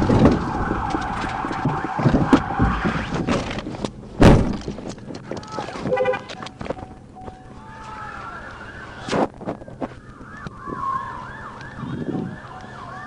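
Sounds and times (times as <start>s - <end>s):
police siren wailing: 0.0s - 3.3s, 5.4s - 13.0s.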